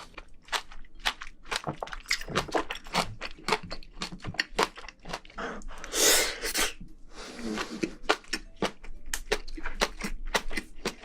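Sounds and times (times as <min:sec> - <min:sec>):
chewing and crunching seafood: 0:00.0 - 0:11.0.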